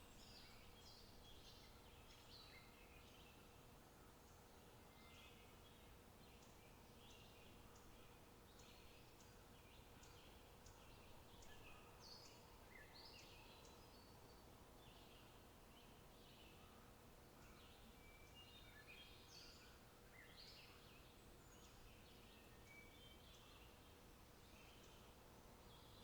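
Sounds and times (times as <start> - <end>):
low outdoor background: 0.0 - 26.0.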